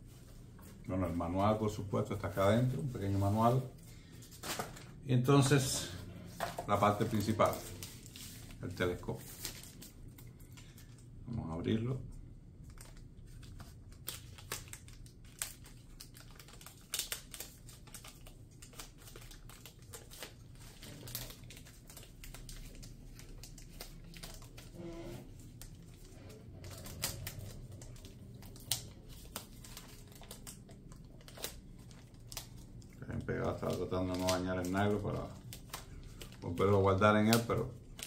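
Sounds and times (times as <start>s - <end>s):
plastic wrap crinkling: 0.0s - 11.7s, 12.6s - 38.0s.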